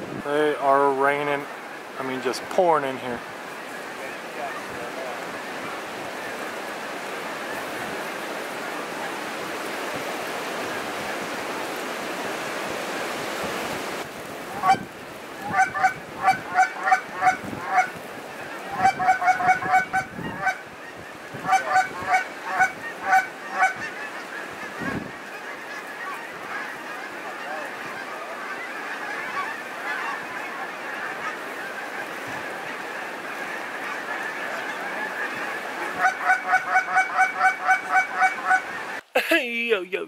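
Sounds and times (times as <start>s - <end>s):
geese honking: 1.0s - 12.5s, 14.4s - 39.0s.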